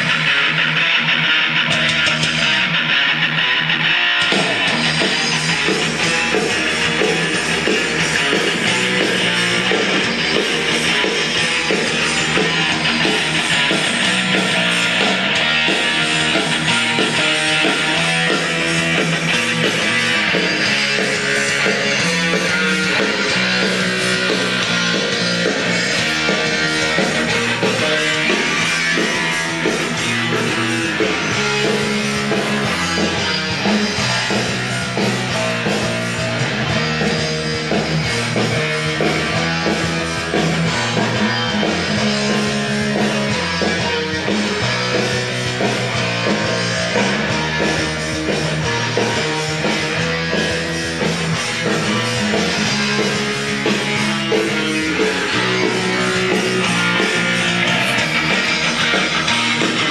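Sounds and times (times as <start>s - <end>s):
rock music with guitar: 0.0s - 59.9s.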